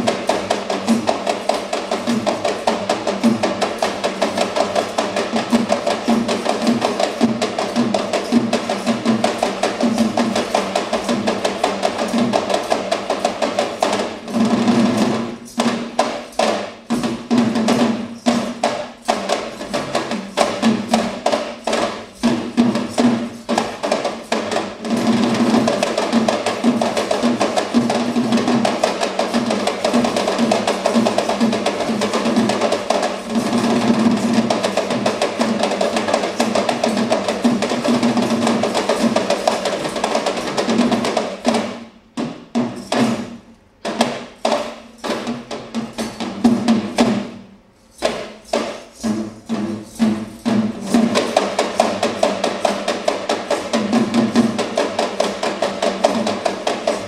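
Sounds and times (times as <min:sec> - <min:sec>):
hand drums fast rhythm: 0:00.0 - 0:57.0.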